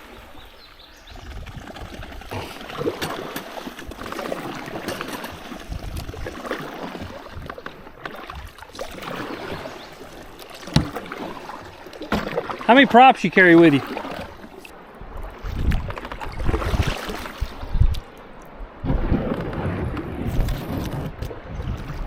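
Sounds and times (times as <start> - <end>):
river water rushing and splashing: 0.0 - 22.0.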